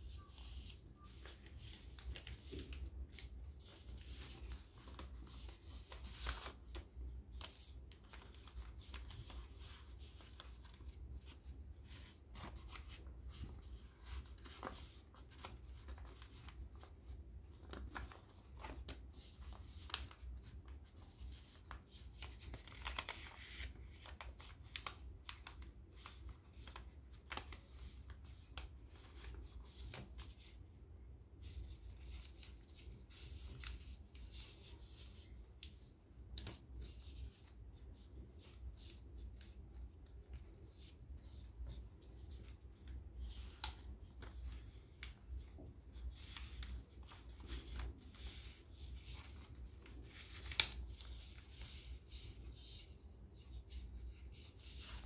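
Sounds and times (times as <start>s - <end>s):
paper rustling and creasing: 0.1s - 30.6s, 31.4s - 55.0s.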